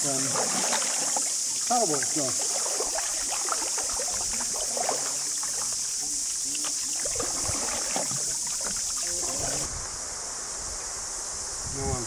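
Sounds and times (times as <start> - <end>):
paddle dipping in water: 0.0 - 9.7
water splashing against boat: 0.0 - 9.7
steady high-pitched hiss: 0.0 - 12.0.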